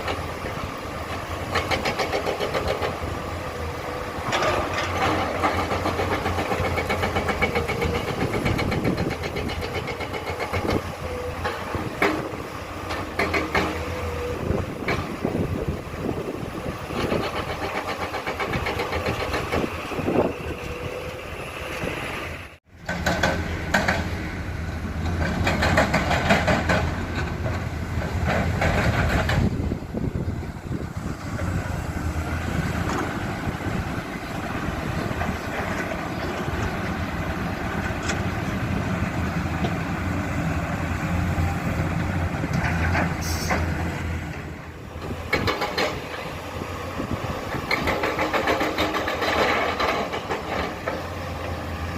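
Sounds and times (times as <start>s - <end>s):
diesel engines running under load: 0.0s - 51.9s.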